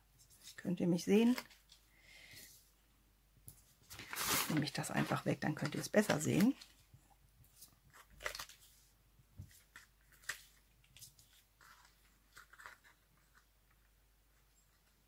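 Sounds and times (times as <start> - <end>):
faint rustling of card: 0.1 - 2.8, 3.5 - 15.0.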